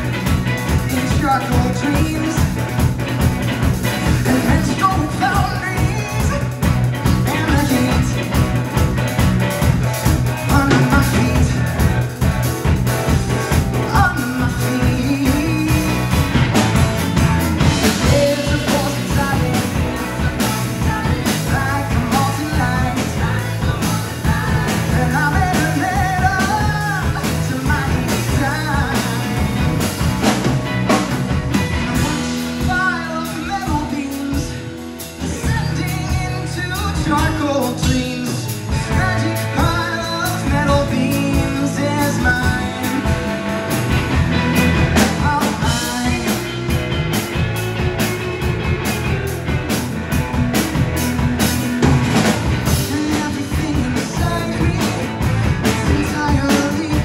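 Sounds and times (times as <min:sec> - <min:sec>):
live pop-rock band playing: 0:00.0 - 0:57.0
wavering melodic lead line: 0:00.0 - 0:57.0.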